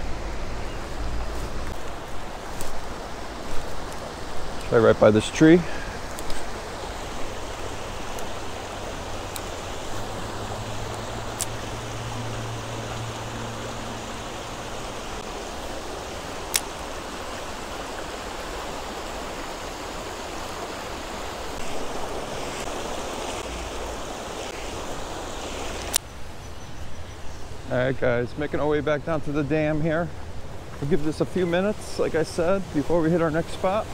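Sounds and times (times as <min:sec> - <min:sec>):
creek rushing over rocks: 0:00.0 - 0:26.0, 0:27.5 - 0:33.9.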